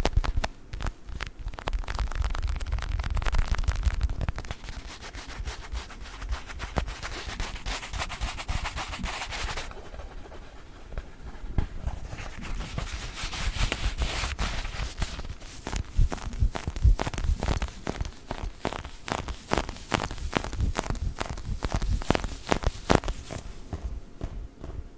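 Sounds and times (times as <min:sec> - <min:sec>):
scratching and tapping on ball: 0:00.0 - 0:24.9.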